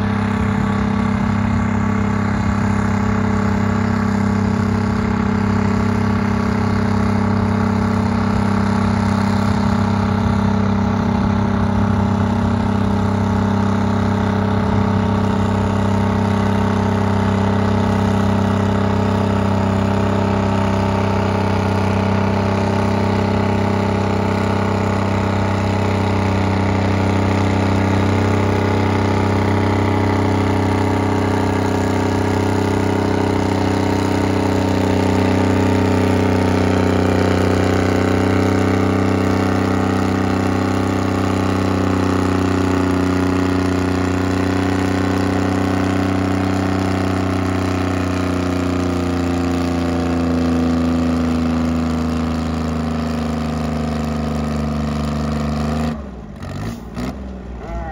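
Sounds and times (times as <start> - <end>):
tractor engine under heavy load: 0.0 - 57.9.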